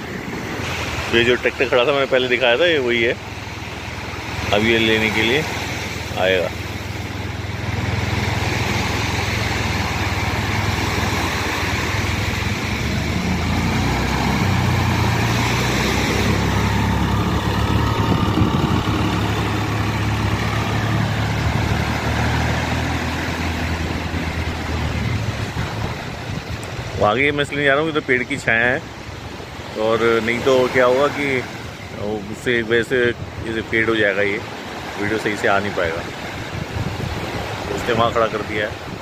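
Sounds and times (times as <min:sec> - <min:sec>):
diesel tractor engine running: 0:00.0 - 0:32.3
waves washing on shore: 0:00.0 - 0:39.0.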